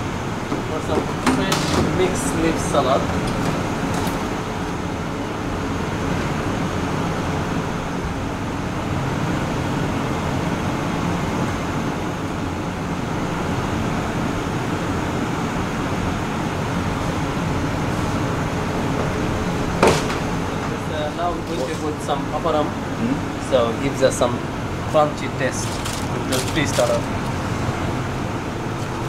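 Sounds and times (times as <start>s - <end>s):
ventilation fans roaring: 0.0s - 29.0s.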